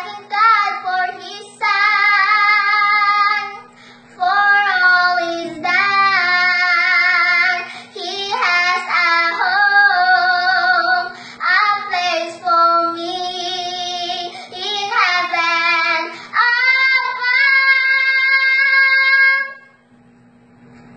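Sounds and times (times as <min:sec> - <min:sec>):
girl singing: 0:00.0 - 0:19.7
low hum: 0:00.0 - 0:20.9.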